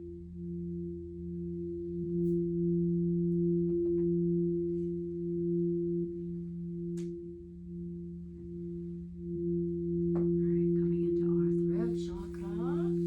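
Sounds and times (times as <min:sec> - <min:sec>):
singing bowl drone: 0:00.0 - 0:13.0.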